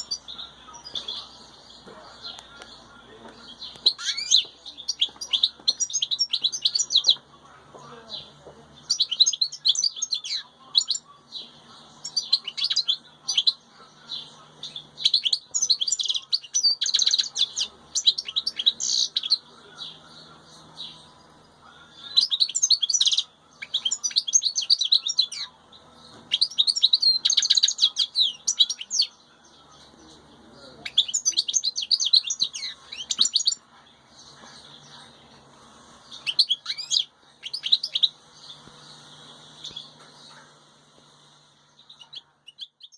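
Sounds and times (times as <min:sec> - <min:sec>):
goldfinch twittering song: 0:00.0 - 0:40.6.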